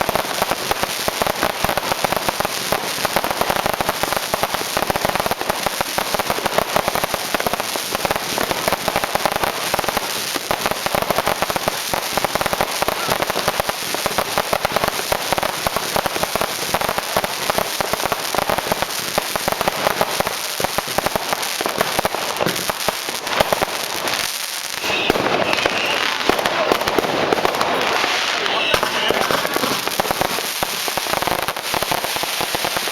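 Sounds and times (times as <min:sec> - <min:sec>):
fireworks crackling and banging: 0:00.0 - 0:32.9.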